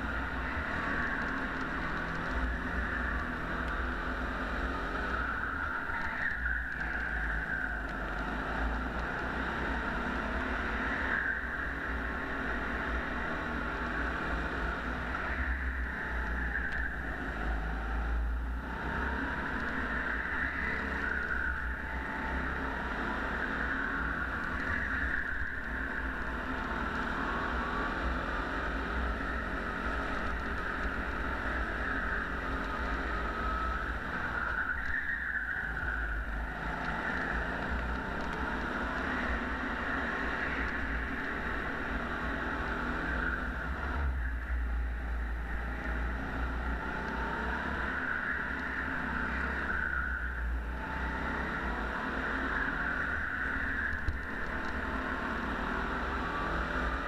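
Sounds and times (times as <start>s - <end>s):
go-kart engine buzzing: 0.0s - 57.0s.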